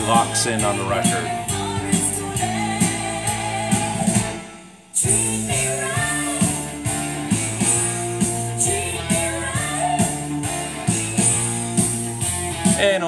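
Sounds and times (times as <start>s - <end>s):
rock song from vinyl record: 0.0s - 13.0s.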